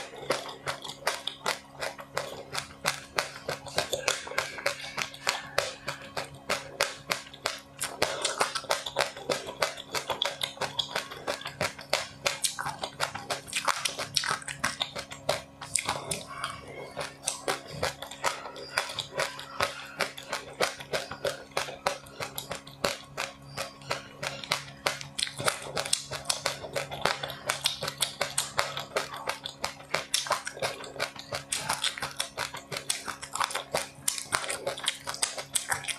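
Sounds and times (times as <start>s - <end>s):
crunchy snack chewing: 0.0s - 35.9s
steady low hum: 0.0s - 35.9s.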